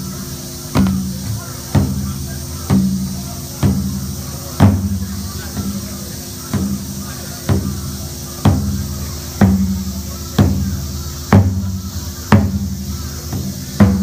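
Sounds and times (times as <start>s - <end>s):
taiko drum booming strokes: 0.0s - 14.0s.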